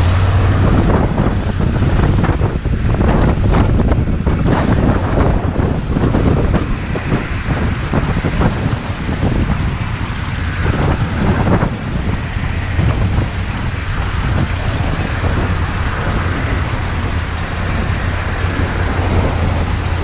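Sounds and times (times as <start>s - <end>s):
motorcycle engine humming: 0.0s - 20.0s
wind noise on microphone: 0.0s - 20.0s.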